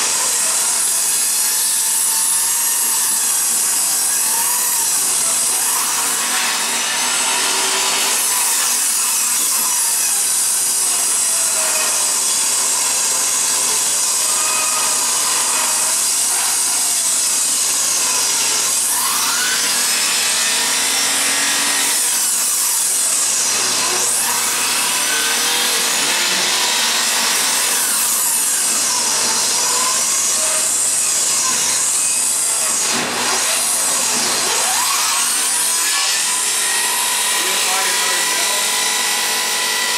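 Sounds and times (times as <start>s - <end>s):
power tool rasping hiss: 0.0s - 39.9s.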